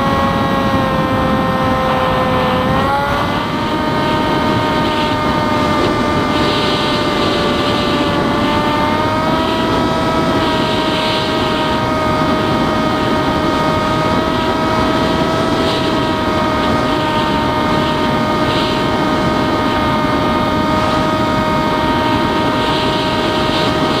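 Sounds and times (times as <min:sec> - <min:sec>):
electric motor and propeller whine: 0:00.0 - 0:24.0
wind on microphone: 0:00.0 - 0:24.0.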